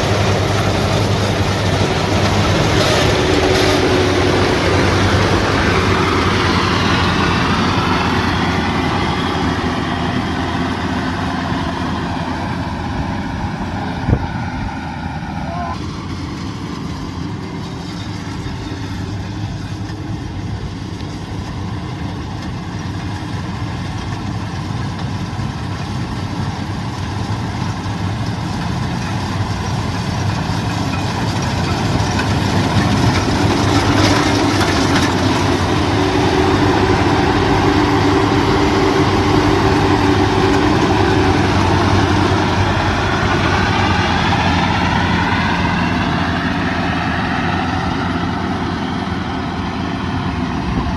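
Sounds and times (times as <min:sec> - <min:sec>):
diesel engine drone: 0:00.0 - 0:50.9.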